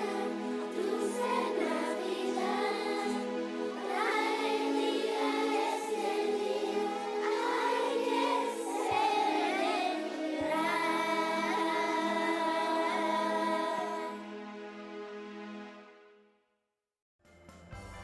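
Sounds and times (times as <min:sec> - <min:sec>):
choir singing: 0:00.0 - 0:15.6
low musical accompaniment: 0:00.0 - 0:16.3.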